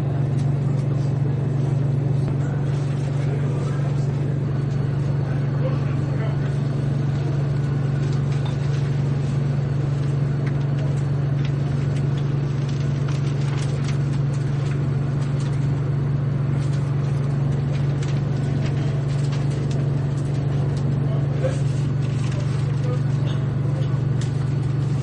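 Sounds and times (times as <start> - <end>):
diesel train engine idling: 0.0 - 25.0.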